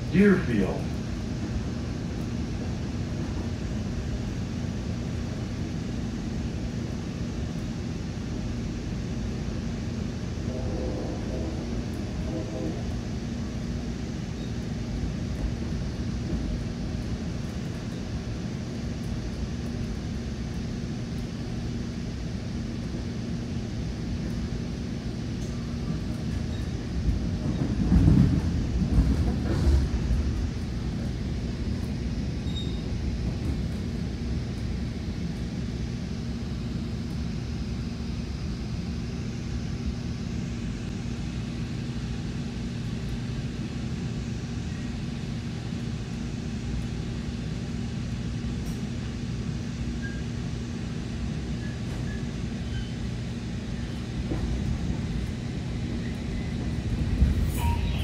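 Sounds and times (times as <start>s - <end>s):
train coach rumble and hum: 0.0s - 58.0s.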